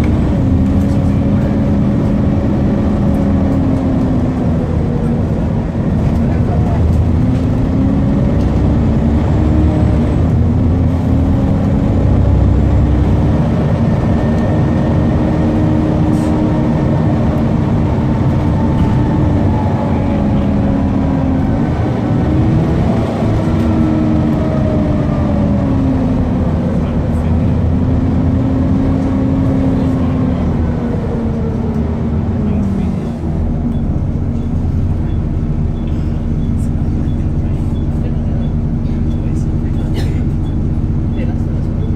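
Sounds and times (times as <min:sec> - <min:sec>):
bus engine running: 0:00.0 - 0:41.9
cooling fans running: 0:00.0 - 0:41.9.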